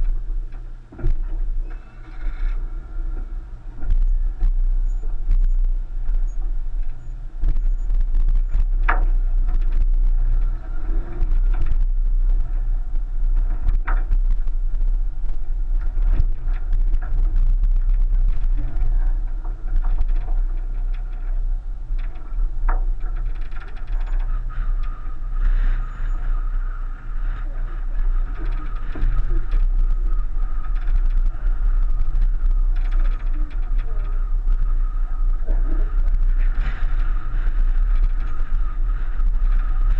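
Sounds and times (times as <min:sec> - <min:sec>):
short high creaks: 0:00.0 - 0:15.2, 0:15.8 - 0:39.9
car engine low rumble: 0:00.0 - 0:39.9.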